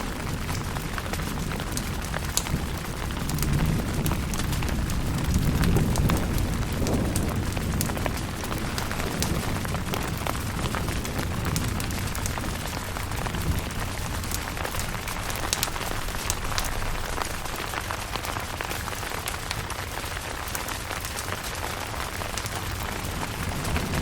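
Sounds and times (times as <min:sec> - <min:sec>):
rain pattering on a tent: 0:00.0 - 0:24.0.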